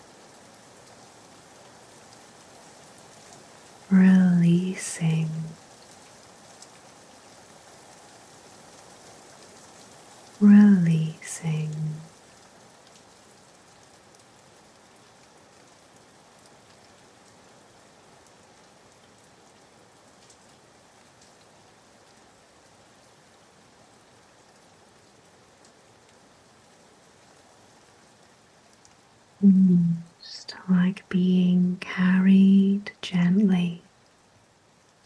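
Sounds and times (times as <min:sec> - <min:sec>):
soft rain pattering: 0:00.0 - 0:35.0.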